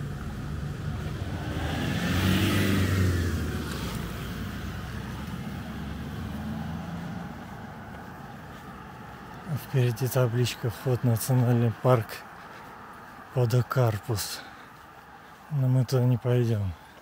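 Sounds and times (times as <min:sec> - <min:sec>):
vehicle driving past: 0:00.0 - 0:15.2.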